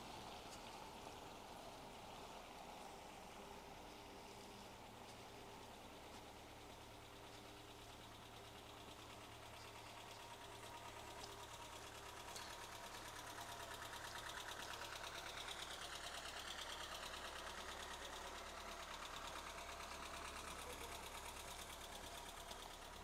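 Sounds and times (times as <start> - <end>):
engine idling with clatter: 0.0 - 23.0.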